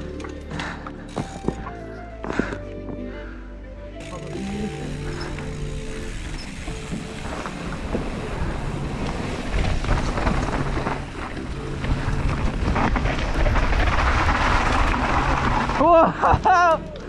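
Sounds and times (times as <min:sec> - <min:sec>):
bike rattling on dirt trail: 0:00.6 - 0:01.7, 0:04.0 - 0:16.9.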